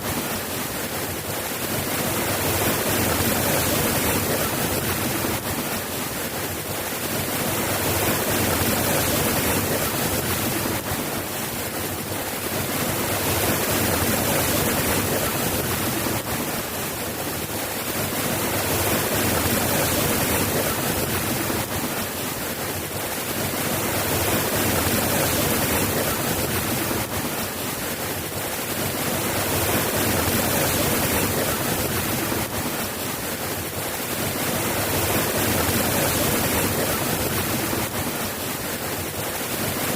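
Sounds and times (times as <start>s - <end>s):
soft rain: 0.0s - 39.9s.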